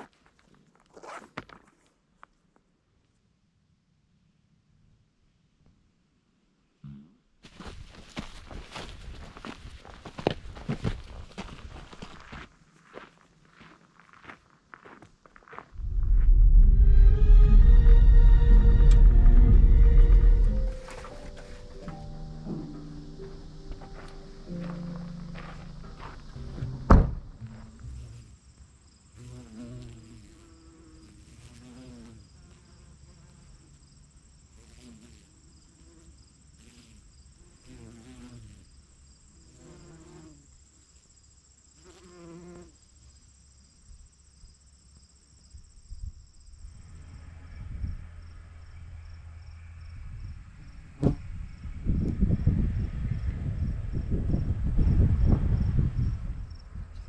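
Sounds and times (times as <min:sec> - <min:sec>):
crickets chirping: 0:07.6 - 0:57.0.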